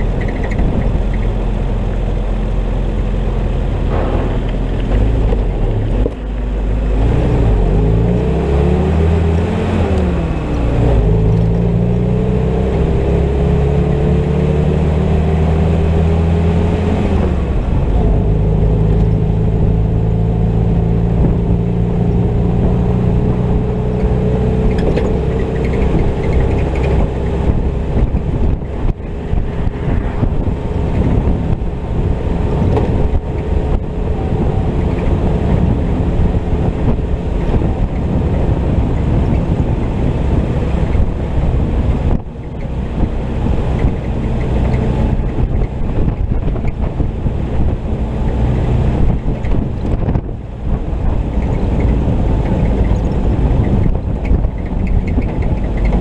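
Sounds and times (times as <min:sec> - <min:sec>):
jeep engine accelerating: 0:00.0 - 0:56.0.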